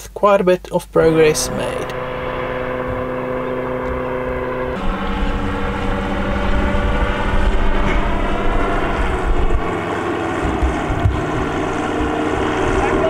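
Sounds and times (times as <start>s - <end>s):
engine and propeller running: 1.0s - 13.0s.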